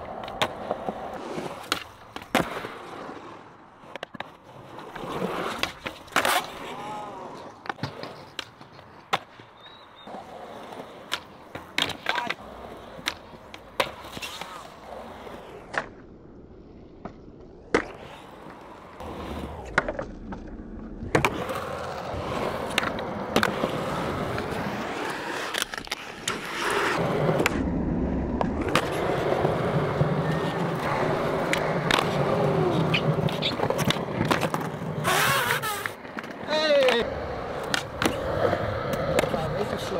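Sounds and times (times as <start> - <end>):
skateboard popping and landing: 0.0 - 39.9
skateboard wheels rolling on concrete: 0.0 - 39.9.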